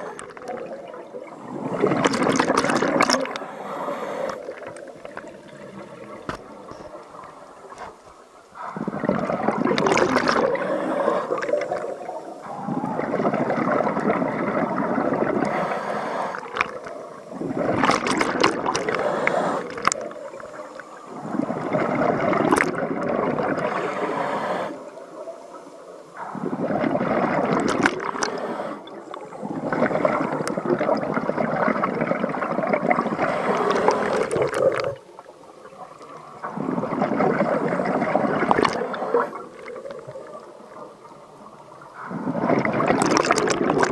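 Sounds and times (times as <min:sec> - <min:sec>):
diver's exhaled bubbles underwater: 0:00.0 - 0:08.0, 0:08.6 - 0:25.4, 0:26.2 - 0:43.9.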